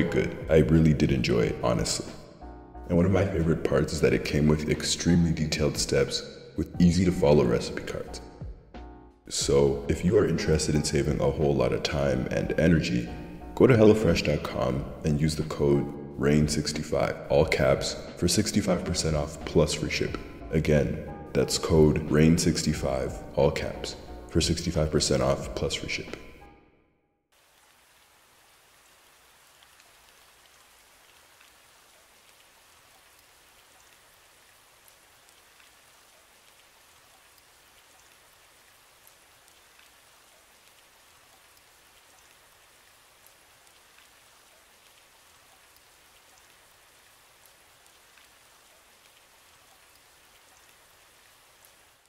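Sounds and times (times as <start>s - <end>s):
ticks of raindrops: 0.0s - 8.4s, 9.3s - 26.4s, 27.4s - 52.0s
faint steady rain: 0.0s - 26.5s, 27.3s - 52.0s.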